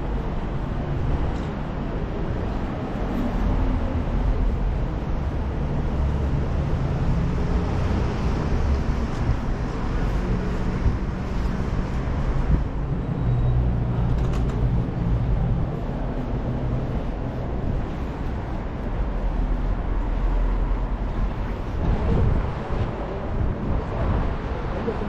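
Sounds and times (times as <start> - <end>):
motor vehicles running: 0.0 - 25.0.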